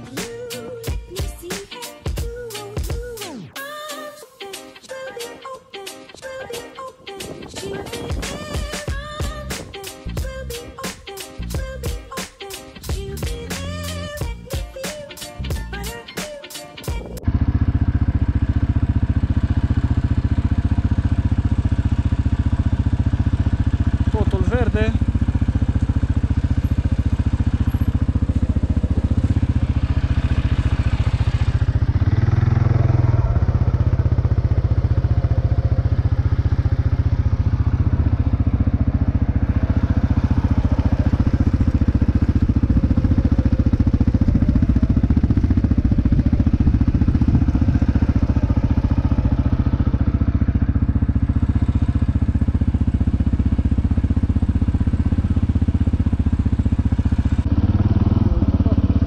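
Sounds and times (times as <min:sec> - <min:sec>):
atv engine running: 0:00.0 - 0:03.2, 0:07.4 - 0:59.0.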